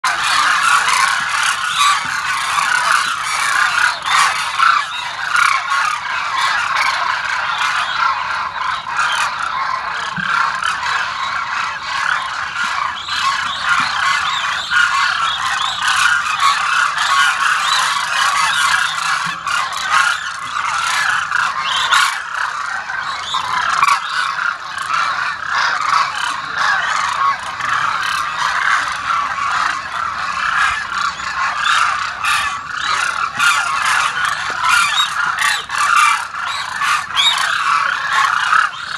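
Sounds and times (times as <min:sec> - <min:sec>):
flock of cranes calling: 0:00.0 - 0:38.9.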